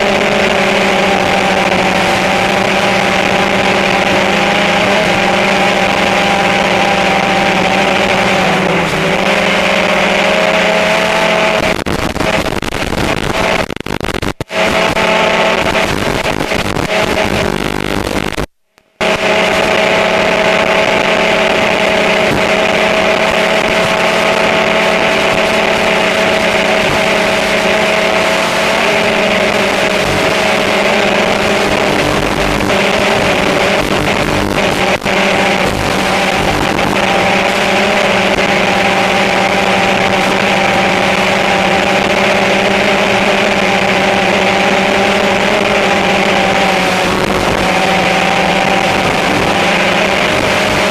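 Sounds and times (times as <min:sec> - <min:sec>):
drone propellers whirring: 0:00.0 - 0:12.4, 0:19.0 - 0:50.9.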